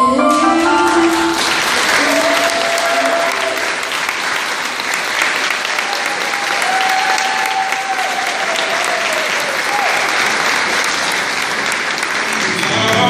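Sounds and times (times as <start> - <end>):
audience applauding: 0.3 - 13.0.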